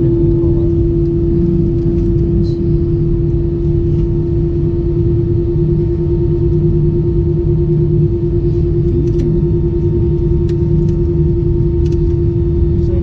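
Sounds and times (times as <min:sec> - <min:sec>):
aircraft cabin rumble: 0:00.0 - 0:13.0
constant hum: 0:00.0 - 0:13.0.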